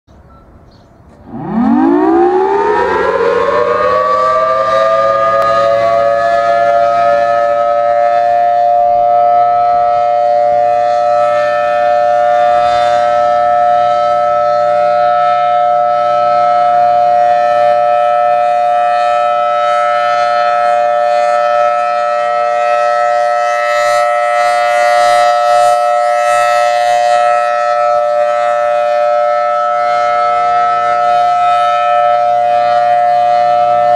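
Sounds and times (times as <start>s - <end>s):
warning siren winding up: 1.1s - 33.9s.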